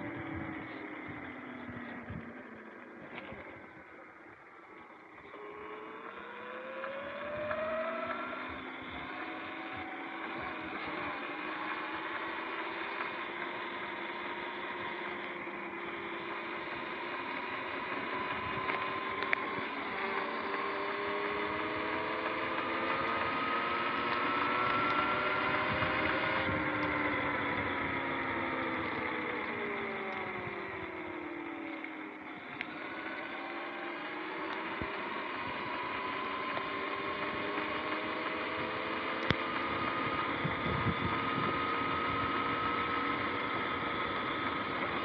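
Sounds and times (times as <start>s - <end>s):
electric motor whining: 0.0s - 45.0s
wind: 0.0s - 45.0s.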